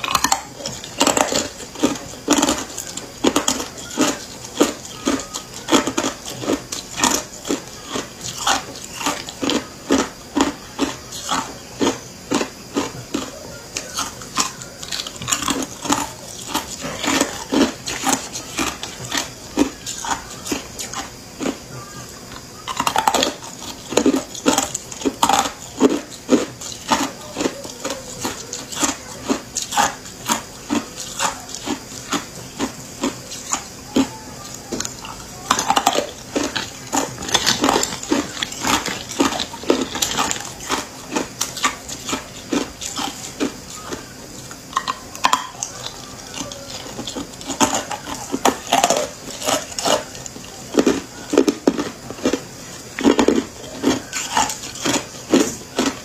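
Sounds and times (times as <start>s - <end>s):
ice cubes crunching in mouth: 0.0s - 56.0s.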